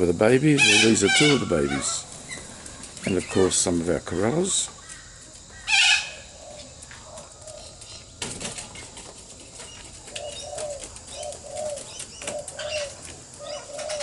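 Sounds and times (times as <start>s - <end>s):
soft bird calls: 0.5s - 14.0s.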